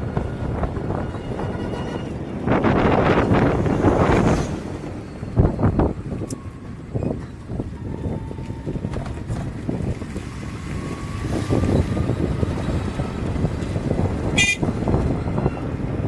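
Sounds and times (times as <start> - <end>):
highway traffic noise: 0.0 - 16.0
wind buffeting microphone: 0.0 - 16.0.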